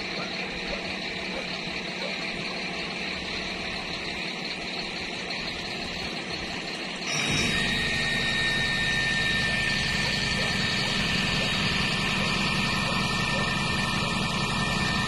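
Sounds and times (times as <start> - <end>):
fire truck engine running: 0.0 - 15.0
high whine: 0.0 - 15.0.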